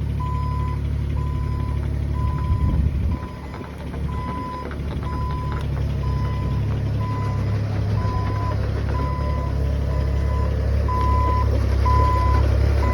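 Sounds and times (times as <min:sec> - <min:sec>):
excavator engine running: 0:00.0 - 0:12.9
excavator travel alarm beeping: 0:00.2 - 0:12.9.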